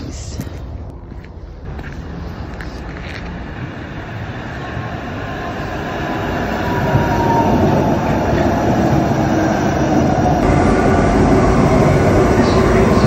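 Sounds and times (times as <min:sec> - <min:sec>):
faint train whine: 0:00.2 - 0:13.0
light-rail train pulling in: 0:01.6 - 0:13.0.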